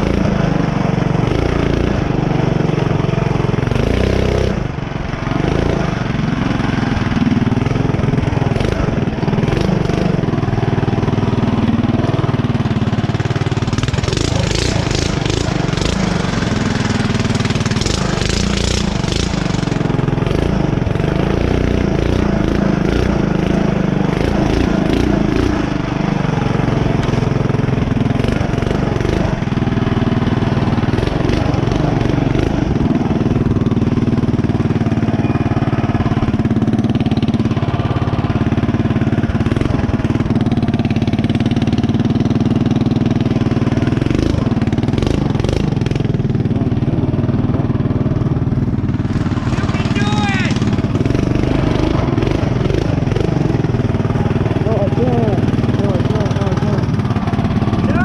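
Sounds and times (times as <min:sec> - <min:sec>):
small engine revving: 0:00.0 - 0:58.0.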